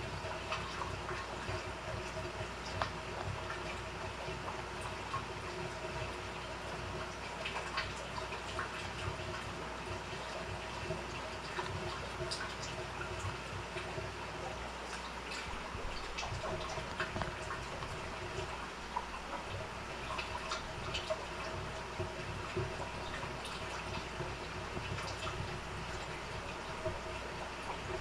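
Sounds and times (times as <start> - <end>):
aquarium water trickling: 0.0 - 28.0
equipment hum: 0.0 - 28.0
small drips and ticks: 0.0 - 28.0.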